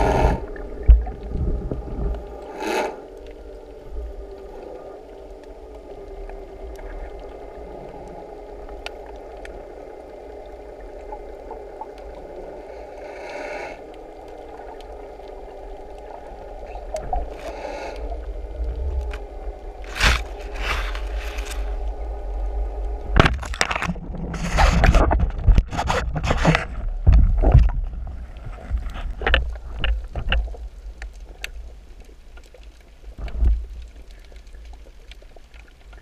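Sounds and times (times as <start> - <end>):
muffled underwater rumble: 0.0 - 36.0
swishing water rushes: 0.0 - 36.0.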